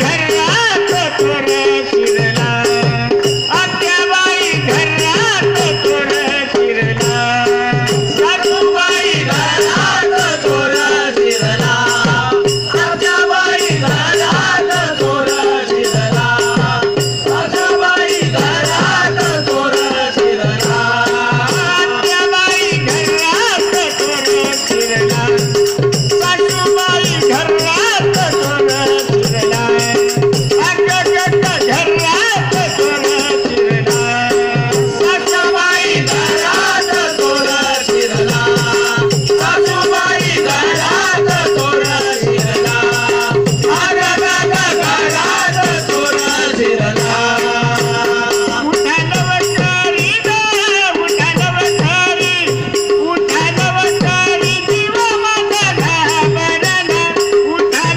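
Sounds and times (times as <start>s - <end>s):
hand cymbals jingling: 0.0s - 57.9s
voices singing over a drone: 0.0s - 57.9s.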